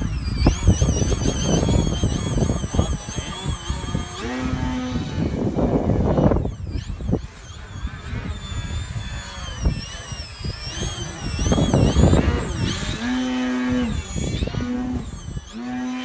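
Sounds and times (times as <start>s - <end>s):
model airplane motor whining: 0.0s - 16.0s
wind buffeting microphone: 0.0s - 16.0s.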